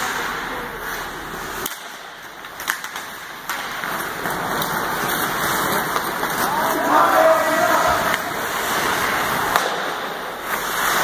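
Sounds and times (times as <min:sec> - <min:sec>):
hockey sticks knocking puck: 0:00.0 - 0:11.0
skates hissing on ice: 0:00.0 - 0:11.0.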